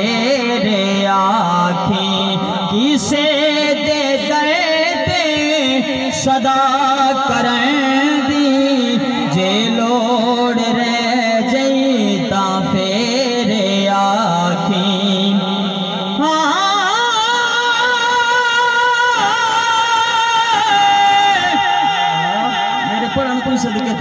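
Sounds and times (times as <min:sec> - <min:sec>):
man chanting through loudspeaker: 0:00.0 - 0:24.0.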